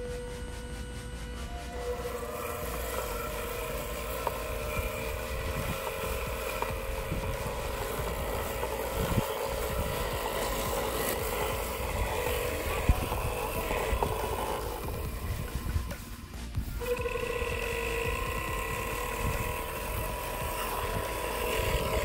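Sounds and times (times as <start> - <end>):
robot mower motors whining: 0.0 - 22.0
wind rumbling on microphone: 0.0 - 22.0.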